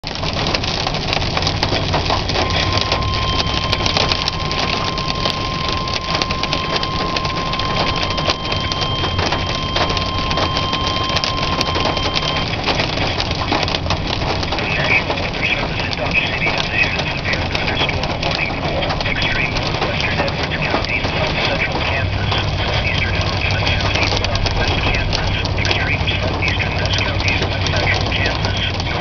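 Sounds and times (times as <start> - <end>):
hail pelting vehicle roof: 0.0 - 29.0
weather radio alert tone: 1.4 - 29.0.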